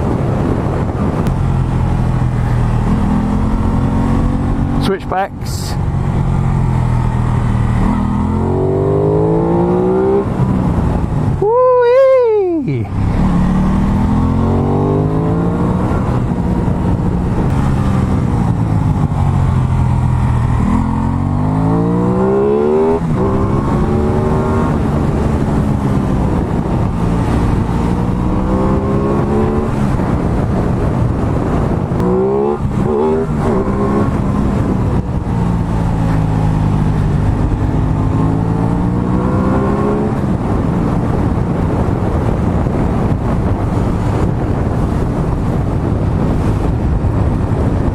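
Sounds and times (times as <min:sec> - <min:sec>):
motorcycle engine revving: 0:01.2 - 0:05.0, 0:05.7 - 0:11.1, 0:12.9 - 0:44.1.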